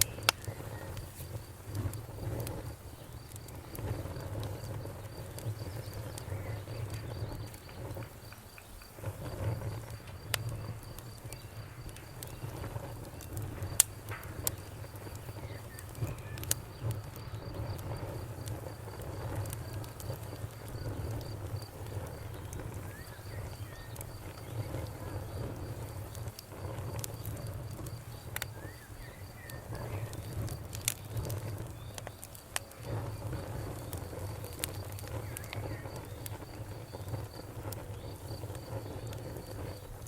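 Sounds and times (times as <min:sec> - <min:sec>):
bonfire crackling: 0:00.0 - 0:40.0
cricket chirping: 0:00.0 - 0:40.0
sharp fire pops: 0:00.0 - 0:40.0.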